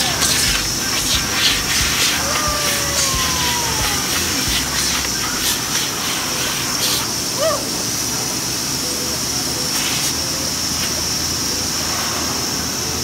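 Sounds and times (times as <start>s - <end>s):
rushing noise with high hiss: 0.0s - 13.0s.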